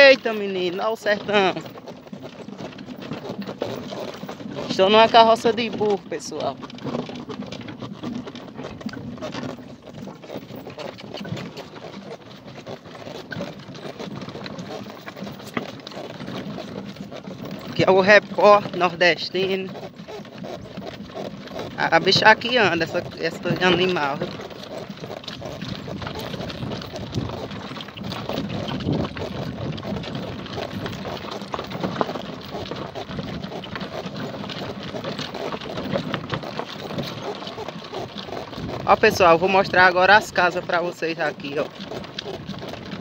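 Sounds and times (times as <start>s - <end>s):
cart clattering over rocks: 0.0s - 43.0s
donkey hoofbeats: 0.0s - 43.0s.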